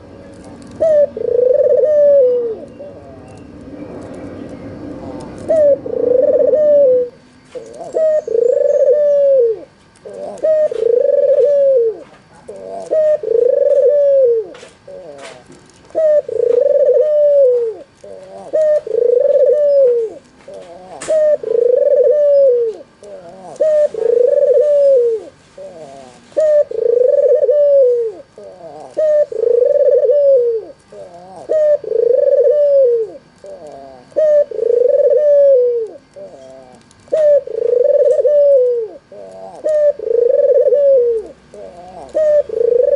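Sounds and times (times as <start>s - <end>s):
dove cooing: 0.6s - 3.2s, 5.1s - 42.9s.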